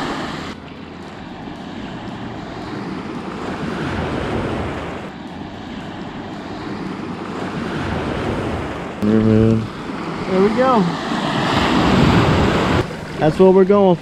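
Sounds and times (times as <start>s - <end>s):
wind on microphone: 0.0s - 13.3s
waves washing on shore: 0.0s - 14.0s.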